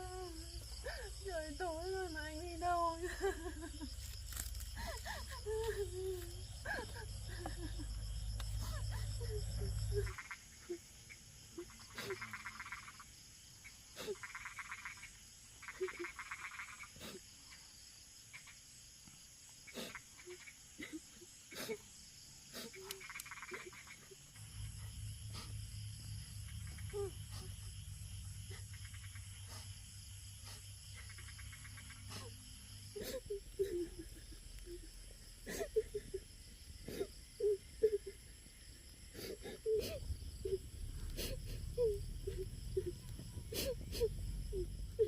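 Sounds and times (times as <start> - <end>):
frogs trilling: 0.0 - 18.9, 19.6 - 45.0.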